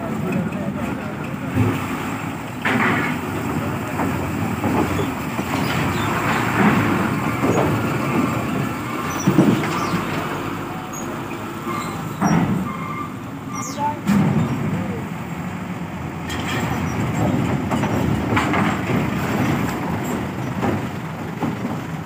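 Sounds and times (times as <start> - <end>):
heavy diesel truck engines rumbling: 0.0 - 22.0.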